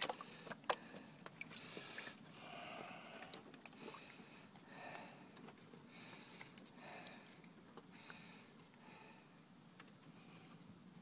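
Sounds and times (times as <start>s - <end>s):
person breathing: 0.2s - 9.4s.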